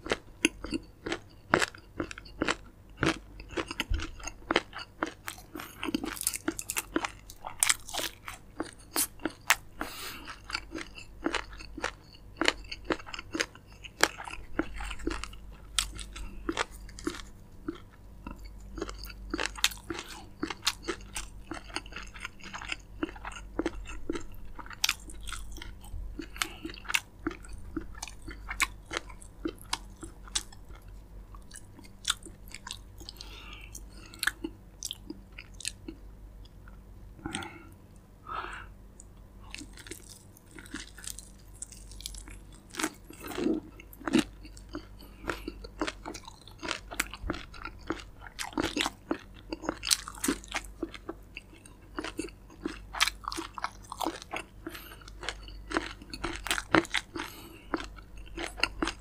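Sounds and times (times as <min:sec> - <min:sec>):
crunching fried chicken: 0:00.0 - 0:36.0, 0:39.0 - 0:59.0.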